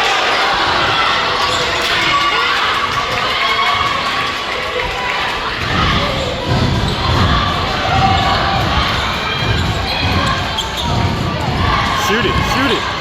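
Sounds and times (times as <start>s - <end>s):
crowd chatter in large hall: 0.0s - 13.0s.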